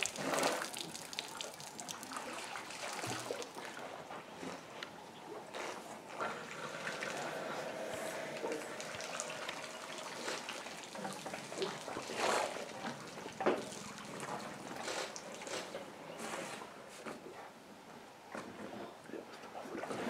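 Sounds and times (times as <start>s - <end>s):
water trickling and splashing: 0.0s - 16.8s.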